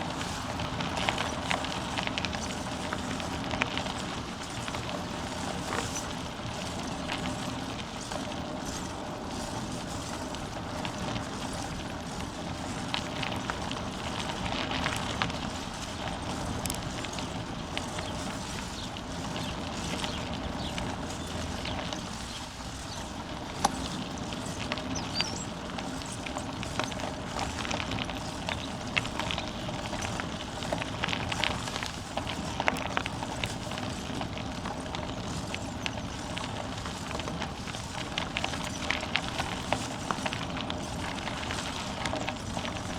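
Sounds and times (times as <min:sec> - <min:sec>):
bicycle tyres rolling: 0:00.0 - 0:42.9
bike clicks and rattles: 0:00.0 - 0:42.9.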